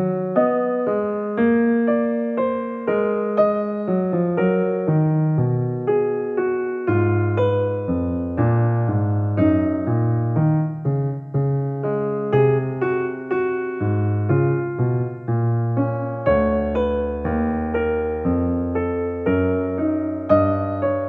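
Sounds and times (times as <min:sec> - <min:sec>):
deep piano bass notes: 0:00.0 - 0:21.0
slow piano melody: 0:00.0 - 0:21.0.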